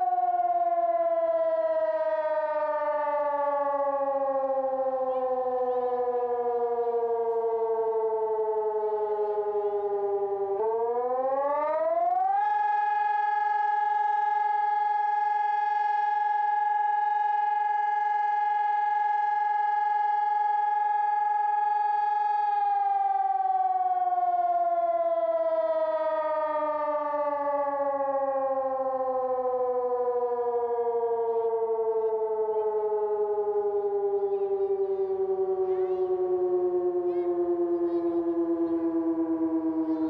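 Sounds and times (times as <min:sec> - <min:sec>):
electronic siren wailing: 0:00.0 - 0:40.0.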